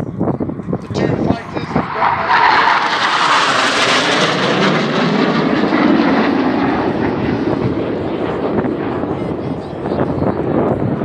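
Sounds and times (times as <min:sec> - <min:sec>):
fighter jets flying past: 0:00.5 - 0:11.0.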